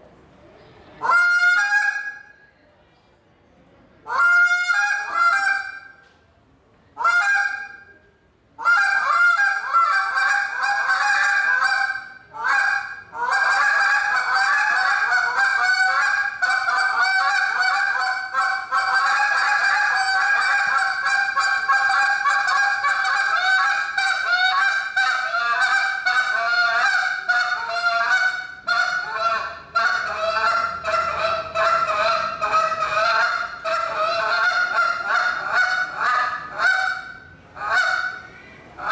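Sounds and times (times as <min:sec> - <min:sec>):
goose call honks: 0:01.0 - 0:02.3, 0:04.1 - 0:05.9, 0:07.0 - 0:07.9, 0:08.6 - 0:38.9.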